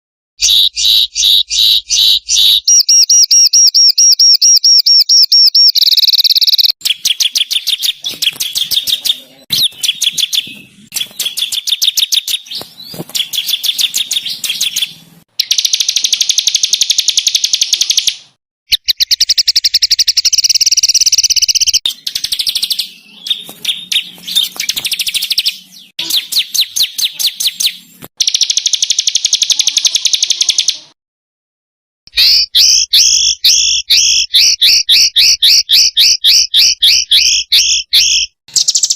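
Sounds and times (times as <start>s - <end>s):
songbird trills: 0.4s - 31.0s, 32.1s - 38.9s.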